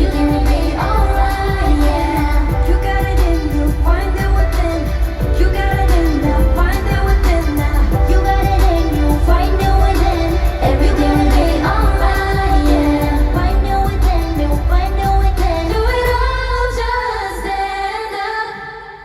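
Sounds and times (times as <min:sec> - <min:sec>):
heavy bass beat: 0:00.0 - 0:16.6
person singing: 0:00.0 - 0:19.0.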